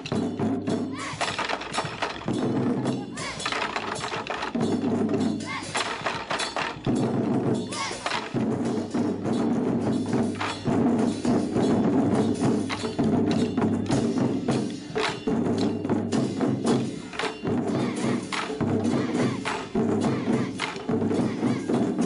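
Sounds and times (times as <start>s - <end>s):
barrel drums played with sticks: 0.0s - 22.0s.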